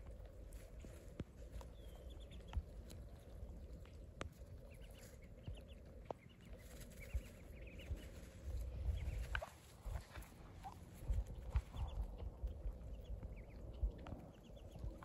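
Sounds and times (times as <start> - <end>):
ducklings peeping: 0.1 - 15.0.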